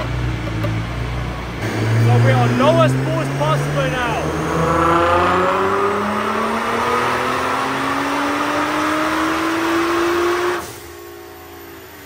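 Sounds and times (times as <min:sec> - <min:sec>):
engine winding down: 0:00.0 - 0:11.8
car engine at full throttle: 0:00.0 - 0:12.0.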